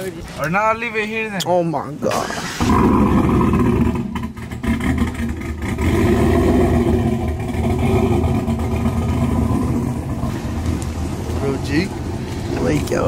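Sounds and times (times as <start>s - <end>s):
pickup engine idling: 2.5s - 13.0s.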